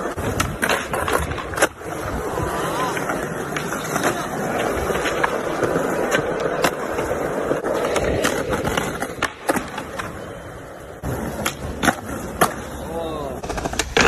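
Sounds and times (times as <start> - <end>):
skateboard clacking on ground: 0.0 - 14.0
skateboard wheels rolling on concrete: 0.0 - 14.0.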